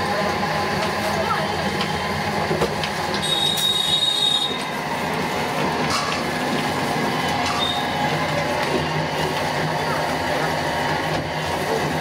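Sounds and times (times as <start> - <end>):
ice cream machine drum running: 0.0 - 12.0.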